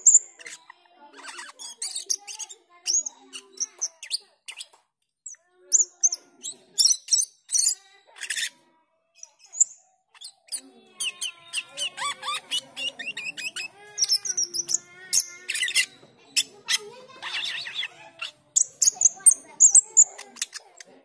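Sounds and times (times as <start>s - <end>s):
starling chirping and chattering: 0.0s - 21.0s.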